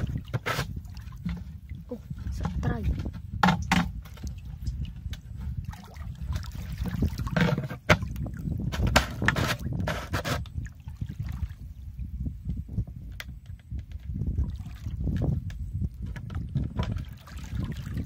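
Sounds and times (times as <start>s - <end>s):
water sloshing and trickling: 0.0s - 18.0s.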